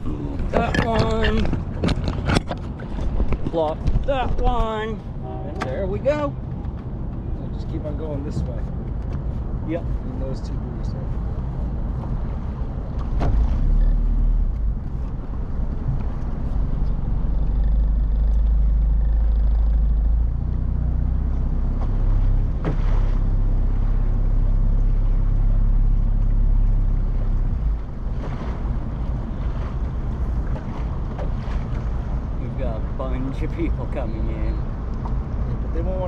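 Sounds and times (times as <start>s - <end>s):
hull and water noise: 0.0s - 36.0s
motorboat engine rumbling: 0.0s - 36.0s.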